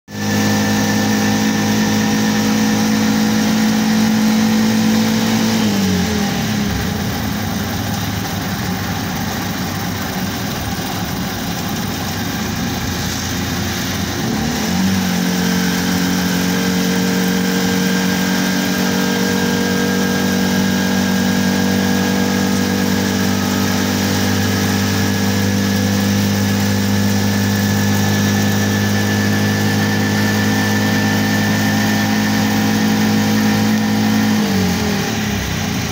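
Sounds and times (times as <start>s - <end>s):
motorcycle engine running: 0.1s - 35.9s.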